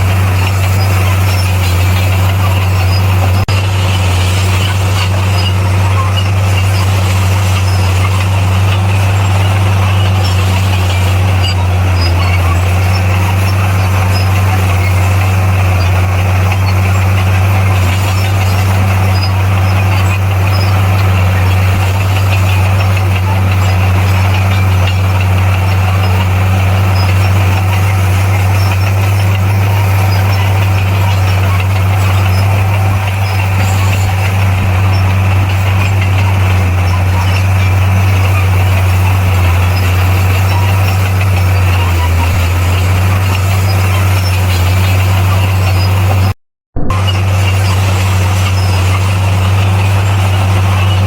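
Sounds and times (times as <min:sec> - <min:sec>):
bulldozer diesel engine droning: 0:00.0 - 0:51.0.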